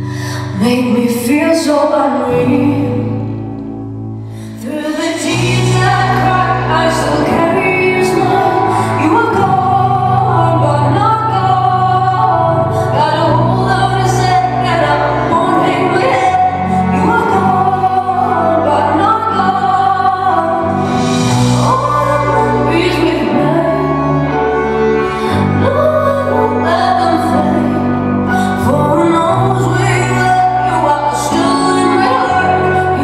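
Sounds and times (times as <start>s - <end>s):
woman singing: 0.0s - 3.7s, 4.4s - 33.0s
bass and accompaniment: 0.0s - 33.0s.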